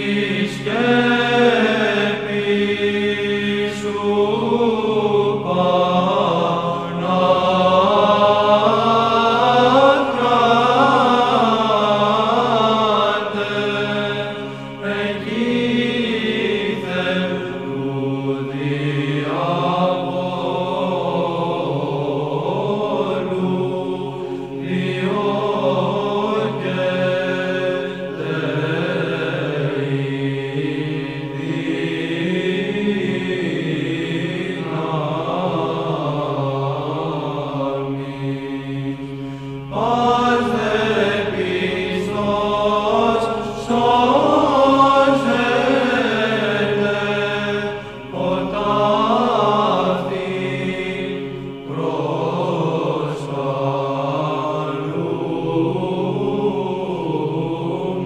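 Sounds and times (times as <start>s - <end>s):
low held drone: 0.0s - 58.0s
voices chanting slow melody: 0.0s - 58.0s.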